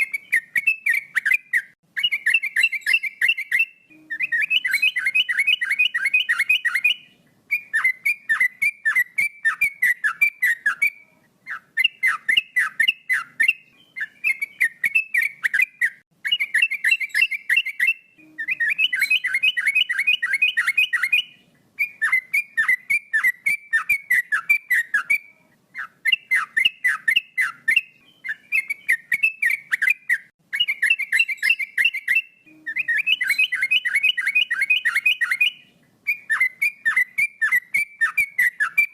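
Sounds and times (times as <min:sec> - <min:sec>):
bird singing rapid repeated notes: 0:00.0 - 0:38.9.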